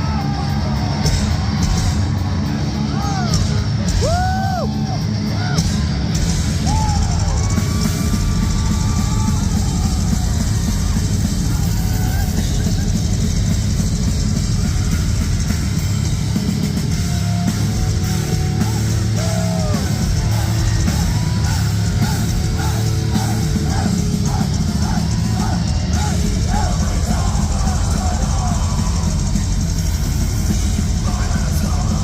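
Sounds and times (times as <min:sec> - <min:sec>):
metal band playing live: 0:00.0 - 0:32.0.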